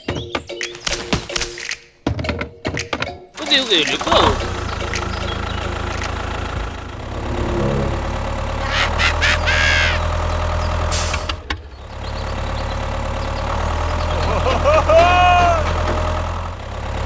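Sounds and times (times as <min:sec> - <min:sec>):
tractor engine humming: 0:03.3 - 0:17.0.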